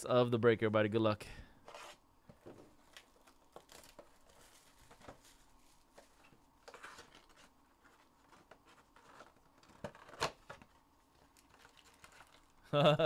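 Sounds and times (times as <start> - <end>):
packaging rustling: 1.7 - 12.7.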